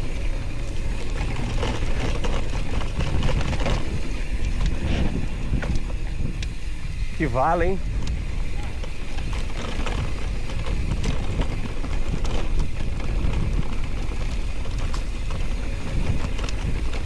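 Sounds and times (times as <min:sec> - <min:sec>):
bike rattles and clicks: 0:00.0 - 0:17.0
tyres rumbling on dirt: 0:00.0 - 0:17.0
wind buffeting microphone: 0:00.0 - 0:17.0.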